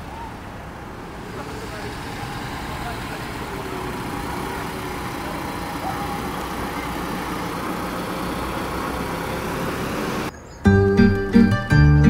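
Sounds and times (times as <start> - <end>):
van engine driving past: 0.0 - 10.3.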